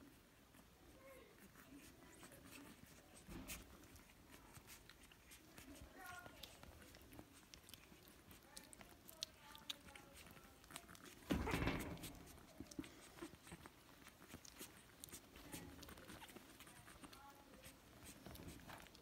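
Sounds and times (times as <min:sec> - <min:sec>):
puppies moving about: 0:00.0 - 0:19.0.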